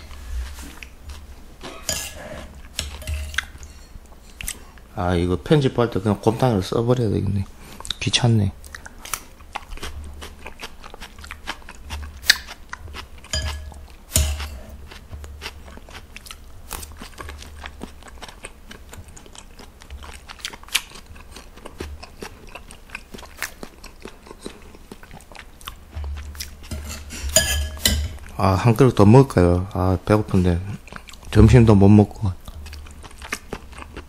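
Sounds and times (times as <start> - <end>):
man chewing and eating soup: 0.0 - 6.8, 7.4 - 34.0.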